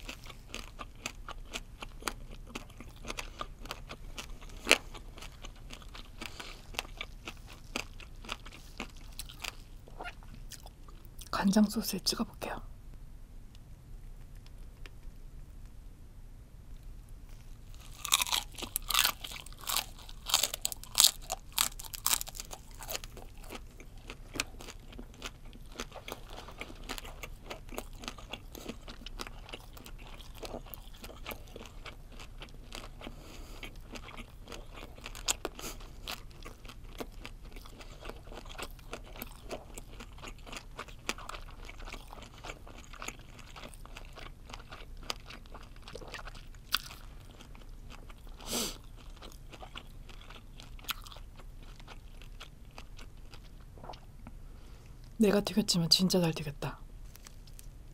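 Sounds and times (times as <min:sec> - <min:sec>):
crunching and chewing fried prawn: 0:00.0 - 0:11.4, 0:17.3 - 0:55.2, 0:57.0 - 0:57.9.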